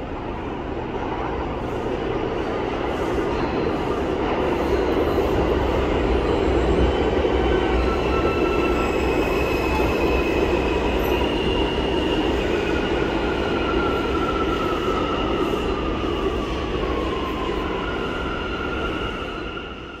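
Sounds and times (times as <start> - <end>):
train wheels squealing on rails: 0.0 - 20.0.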